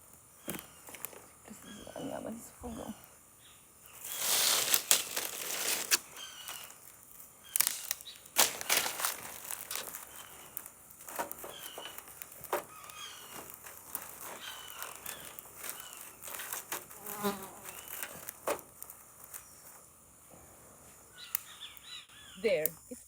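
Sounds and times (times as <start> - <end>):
insects droning high-pitched: 0.0 - 23.0.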